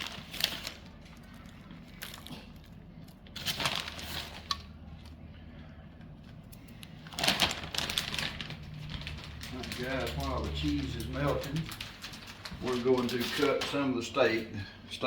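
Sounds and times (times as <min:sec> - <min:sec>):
rustling and crinkling handling: 0:00.0 - 0:15.0.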